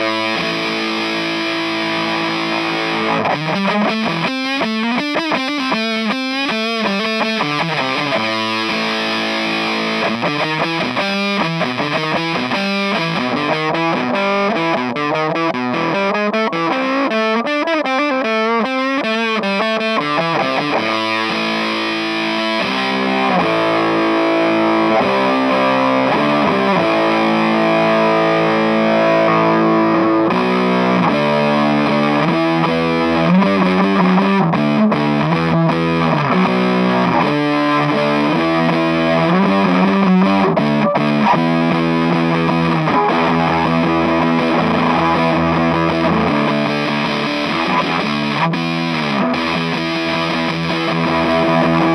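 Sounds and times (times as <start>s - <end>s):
distorted fuzz electric guitar: 0.0s - 51.9s.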